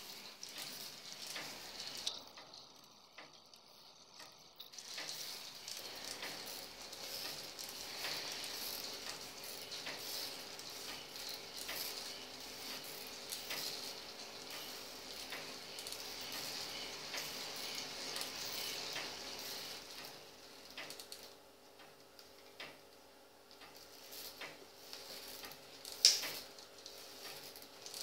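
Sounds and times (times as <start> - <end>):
toy ride whirring hiss: 0.0 - 28.0.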